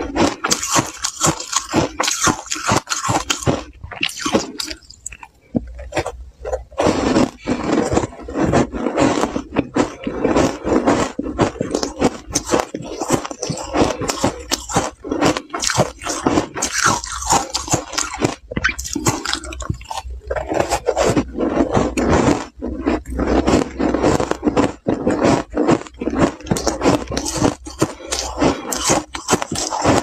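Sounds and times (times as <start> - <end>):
ice cubes crunching in mouth: 0.0 - 30.0.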